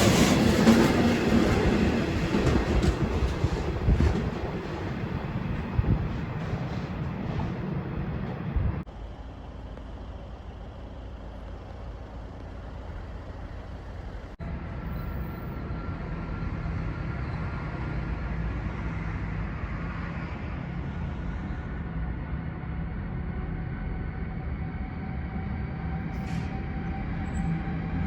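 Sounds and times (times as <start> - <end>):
train rolling rumble: 0.0 - 28.0.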